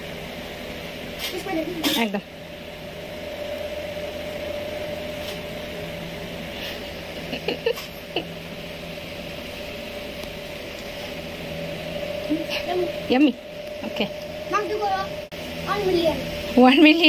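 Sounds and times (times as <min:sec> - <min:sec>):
constant mid-pitched tone: 0:00.0 - 0:17.0
mechanical hum: 0:00.0 - 0:17.0.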